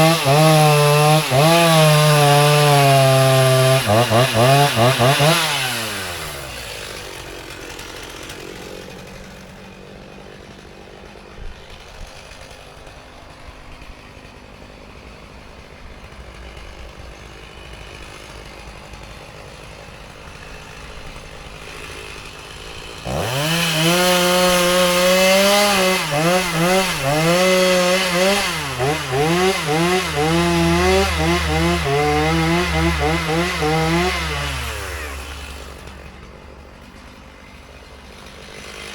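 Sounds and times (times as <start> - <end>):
chainsaw engine revving and idling: 0.0 - 38.9.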